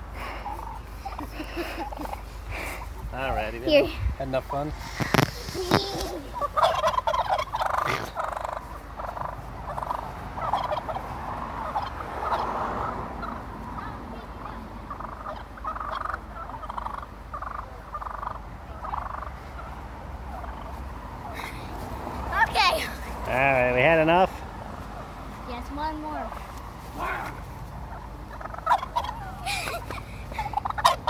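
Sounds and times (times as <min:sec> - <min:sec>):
wild turkeys calling: 0:00.0 - 0:31.0.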